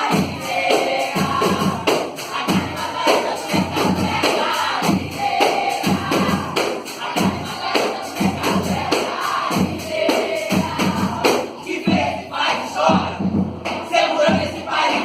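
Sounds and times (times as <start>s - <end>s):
group of voices chanting: 0.0s - 15.0s
music with steady drum beat: 0.0s - 15.0s.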